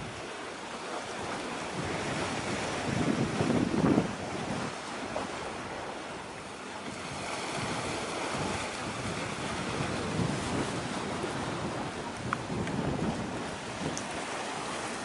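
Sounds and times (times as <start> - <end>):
sea waves: 0.0 - 15.0
wind on microphone: 0.0 - 15.0.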